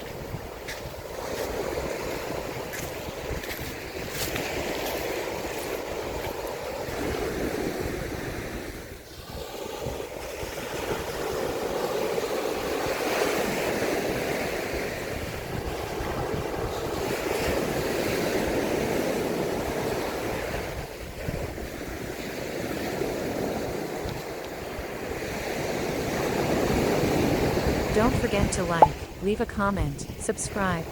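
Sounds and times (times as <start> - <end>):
waves washing onto beach: 0.0 - 29.6.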